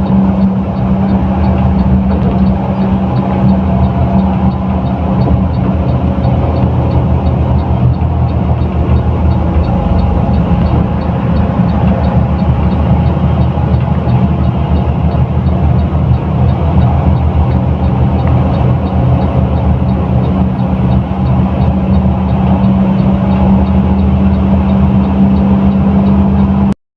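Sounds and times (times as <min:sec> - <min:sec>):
bus diesel engine droning: 0:00.0 - 0:26.8
faint regular ticking: 0:00.0 - 0:26.8
road noise: 0:00.0 - 0:26.8.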